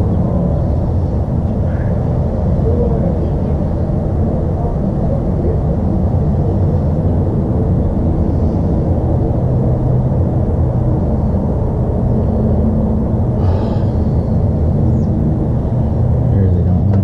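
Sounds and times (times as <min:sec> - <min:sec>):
faint hum: 0:00.0 - 0:17.0
low rumble: 0:00.0 - 0:17.0.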